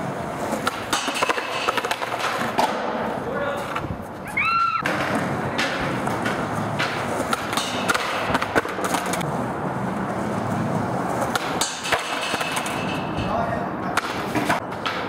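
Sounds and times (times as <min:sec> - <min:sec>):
skateboard cracking and scraping ledge: 0:00.0 - 0:13.0
skateboard wheels rolling on concrete: 0:00.0 - 0:15.0.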